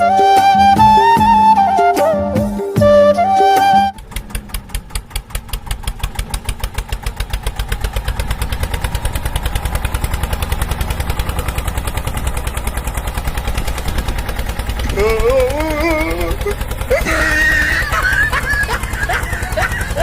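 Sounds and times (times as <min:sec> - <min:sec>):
engine idling with thumping beat: 0:00.0 - 0:20.0.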